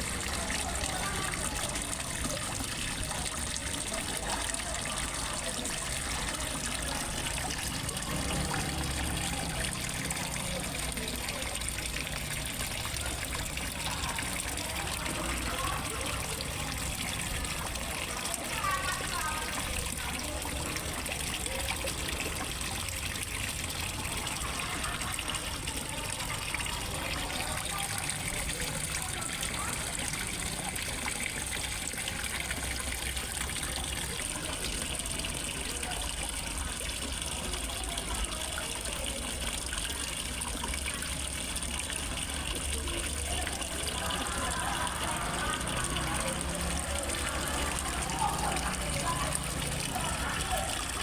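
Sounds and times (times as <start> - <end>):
water splashing into pond: 0.0 - 51.0.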